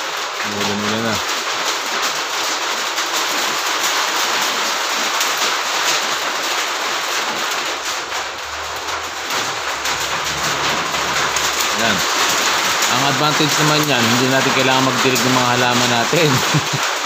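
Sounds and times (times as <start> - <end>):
heavy rain on a metal roof: 0.0 - 17.0.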